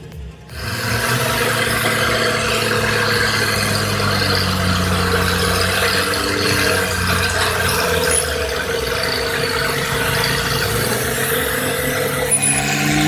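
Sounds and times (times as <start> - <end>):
large machine engine running: 0.0 - 13.0.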